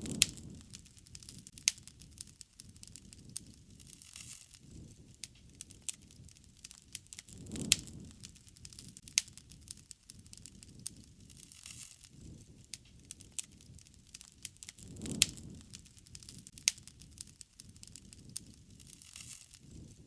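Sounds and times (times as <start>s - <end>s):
fire crackles and pops: 0.0s - 20.0s
low rumble of flame: 0.0s - 20.0s.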